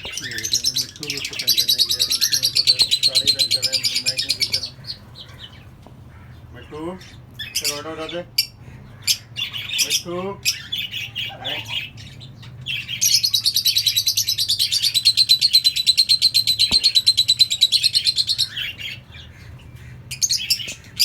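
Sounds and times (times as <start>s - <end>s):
lovebirds chirping: 0.0s - 21.0s.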